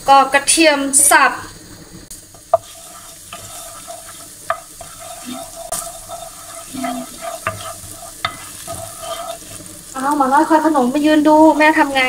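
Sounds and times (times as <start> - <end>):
garlic sizzling in oil: 0.4 - 12.0.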